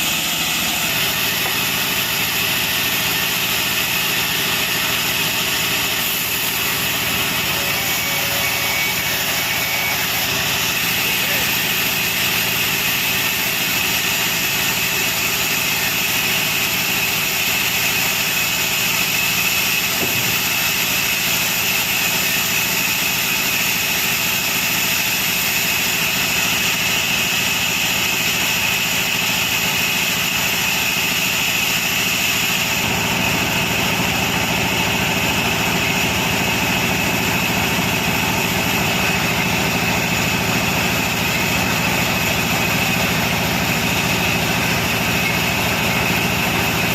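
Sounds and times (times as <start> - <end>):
sawmill machinery high whine: 0.0 - 46.9.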